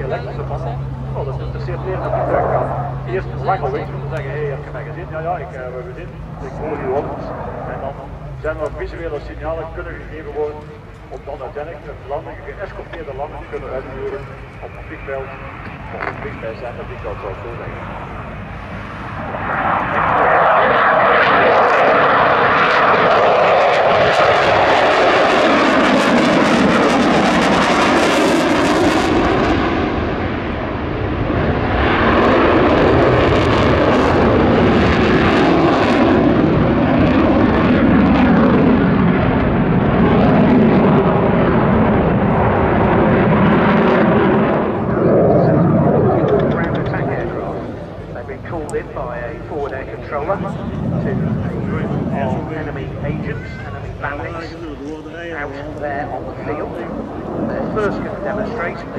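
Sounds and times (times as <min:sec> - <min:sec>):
jet engines roaring past: 0:00.0 - 0:58.9.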